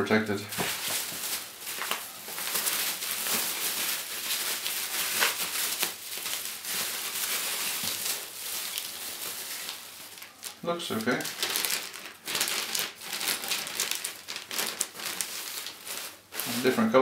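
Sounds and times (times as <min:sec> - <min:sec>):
plastic packaging crinkling: 0:00.5 - 0:17.0.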